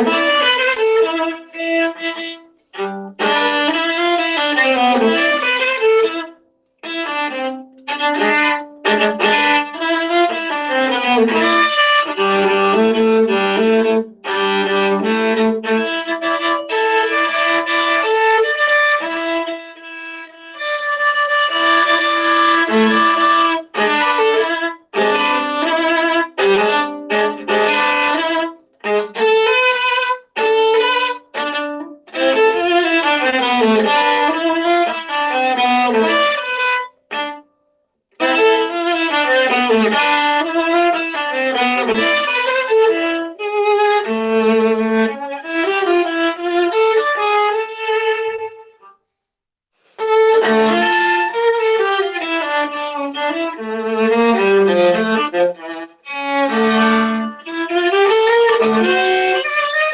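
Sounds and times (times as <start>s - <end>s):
solo viola bowed melody: 0.0s - 37.5s, 38.2s - 49.0s, 49.8s - 59.9s.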